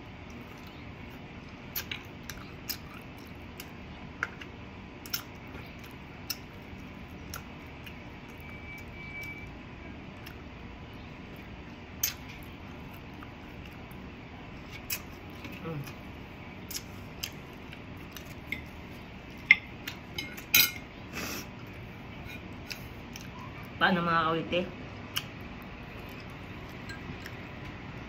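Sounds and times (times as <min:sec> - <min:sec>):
chewing with crisp crunches: 0:00.1 - 0:23.8, 0:25.0 - 0:28.0.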